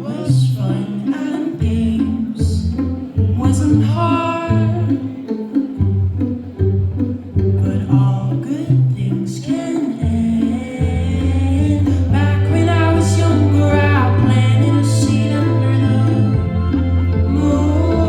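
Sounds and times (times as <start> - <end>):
person singing lead vocal: 0.0 - 5.2, 7.6 - 18.0
sustained bass notes: 1.6 - 18.0.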